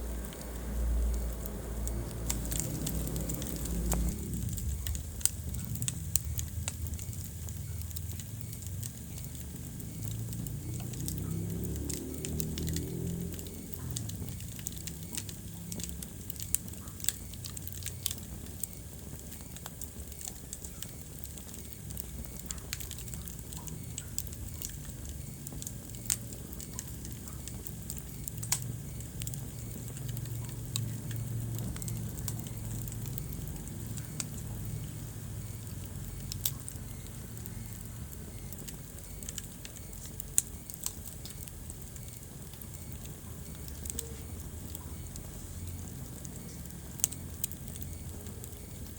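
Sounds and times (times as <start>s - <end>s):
fire crackling and popping: 0.0s - 48.9s
fire flames rumbling: 0.0s - 48.9s.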